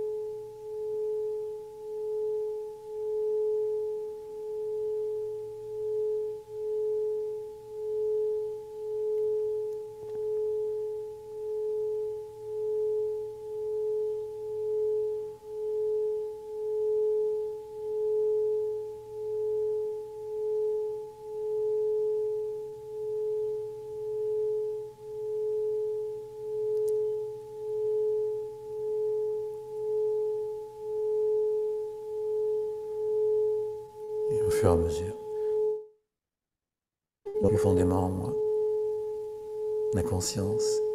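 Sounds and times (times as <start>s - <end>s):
singing bowl ringing: 0.0s - 36.0s, 37.3s - 40.9s.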